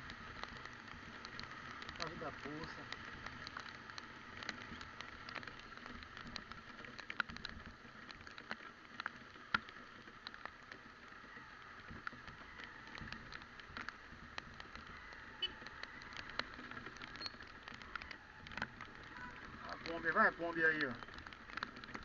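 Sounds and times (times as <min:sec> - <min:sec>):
raindrops ticking on microphone: 0:00.0 - 0:22.0.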